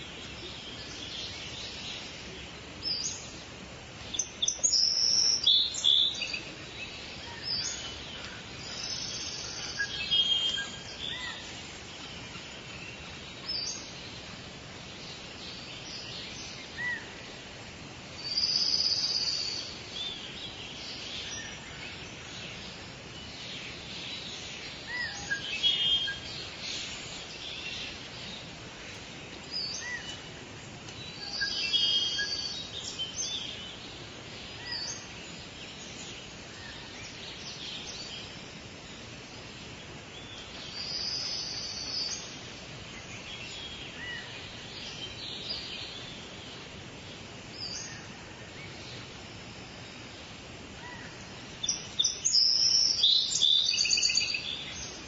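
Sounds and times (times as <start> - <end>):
birds chirping: 0.0 - 55.0
forest background hiss: 0.0 - 55.0.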